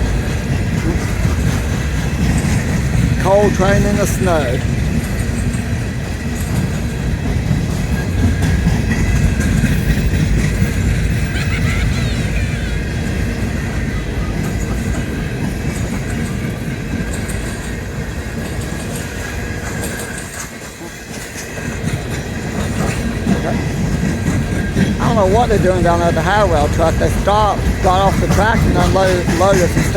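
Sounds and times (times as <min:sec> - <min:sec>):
train wheels clattering on rails: 0:00.0 - 0:29.9.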